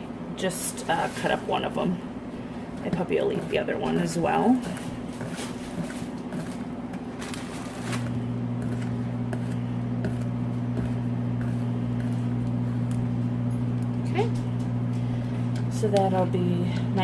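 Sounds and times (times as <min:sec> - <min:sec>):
low electric hum: 0:00.0 - 0:17.0.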